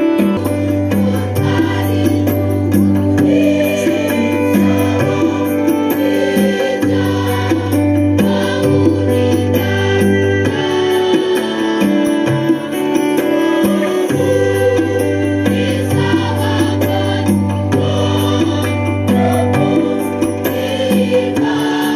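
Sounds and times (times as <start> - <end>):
large choir singing: 0.0 - 21.9.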